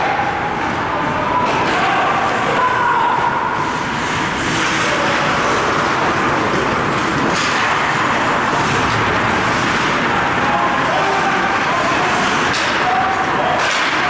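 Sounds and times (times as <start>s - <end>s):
arena noise: 0.0s - 14.0s.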